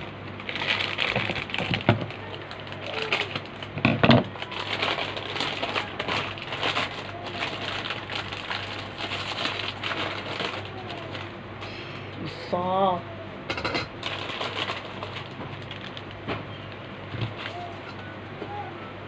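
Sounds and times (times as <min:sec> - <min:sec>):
plastic packet crinkling: 0:00.0 - 0:11.4, 0:13.9 - 0:18.0.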